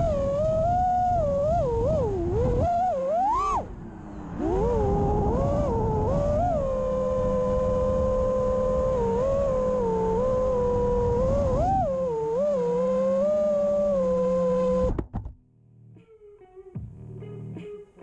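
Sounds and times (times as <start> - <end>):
drone motors whining: 0.0 - 15.1.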